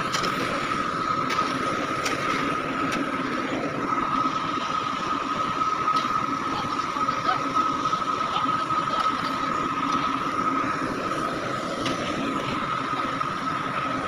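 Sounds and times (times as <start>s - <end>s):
machine drone with whine: 0.0s - 14.0s.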